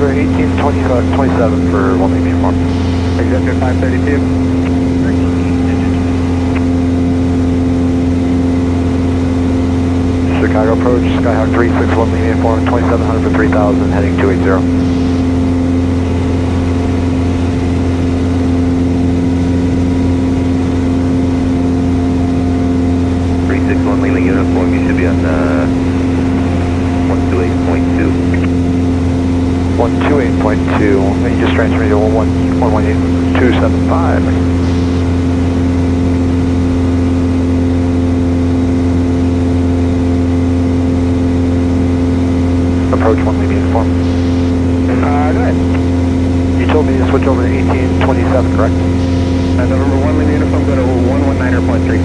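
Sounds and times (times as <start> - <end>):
propeller plane engine droning: 0.0 - 52.0.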